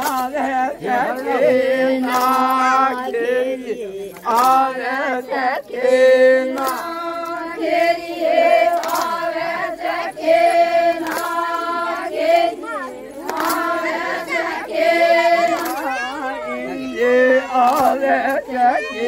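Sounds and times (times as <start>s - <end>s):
women singing unaccompanied: 0.0s - 19.0s.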